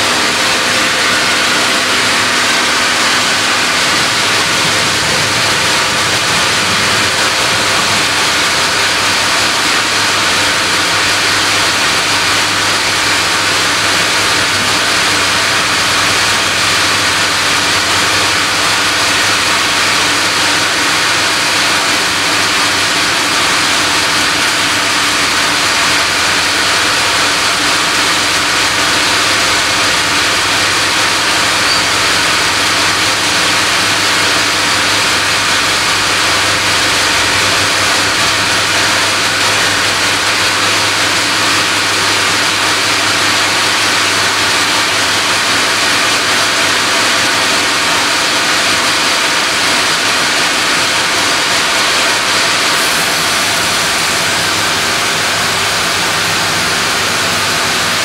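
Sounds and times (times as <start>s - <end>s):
sawmill band saw running: 0.0s - 58.0s.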